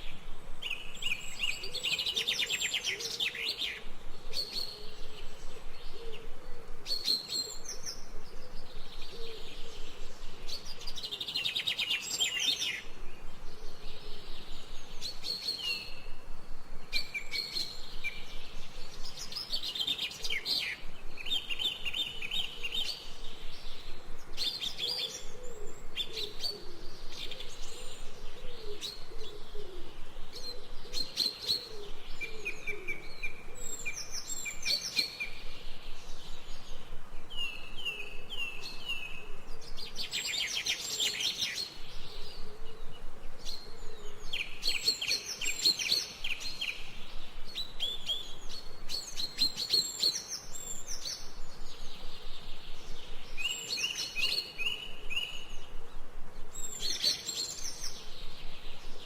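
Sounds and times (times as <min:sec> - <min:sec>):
faint low wavering bird call: 0:00.0 - 0:59.0
songbirds chirping and trilling: 0:00.0 - 0:59.0.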